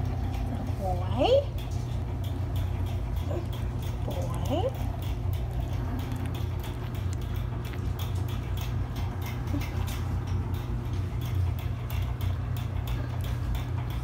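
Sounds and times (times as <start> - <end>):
puppies ticking and rustling: 0.0 - 14.0
steady low hum: 0.0 - 14.0.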